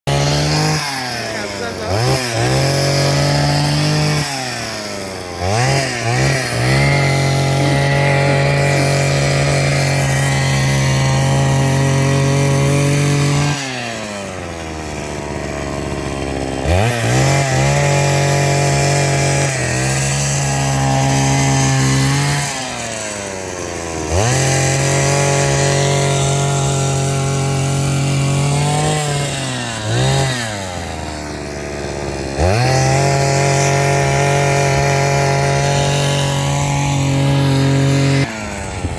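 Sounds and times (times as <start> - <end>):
two-stroke power tool engine revving: 0.0 - 38.9.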